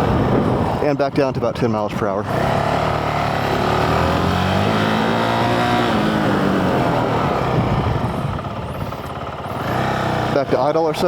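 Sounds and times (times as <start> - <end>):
motorcycle engine: 0.0 - 11.0
road wind noise: 0.0 - 11.0.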